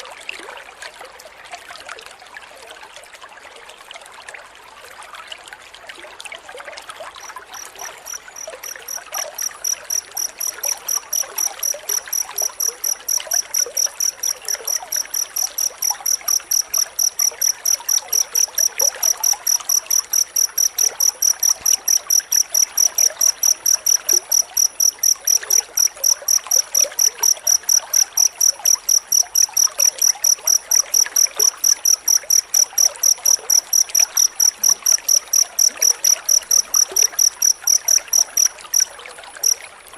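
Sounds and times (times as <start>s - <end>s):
cricket chirping: 7.1s - 39.7s.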